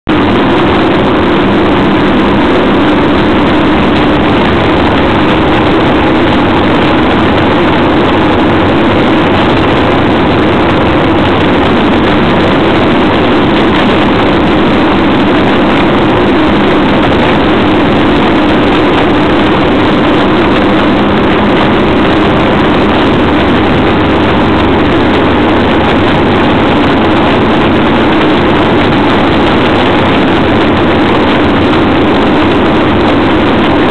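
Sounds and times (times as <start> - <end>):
wind and road noise: 0.0 - 33.9
vehicle engine cruising: 0.1 - 33.9.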